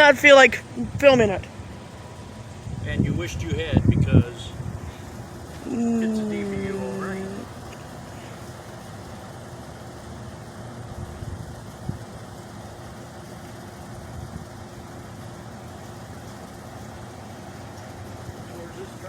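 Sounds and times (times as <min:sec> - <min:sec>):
vehicle engines idling: 0:00.0 - 0:19.0.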